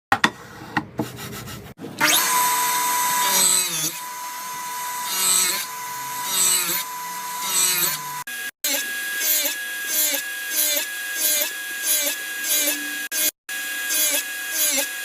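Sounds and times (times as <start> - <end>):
power tool whining through wood: 2.0 - 15.0.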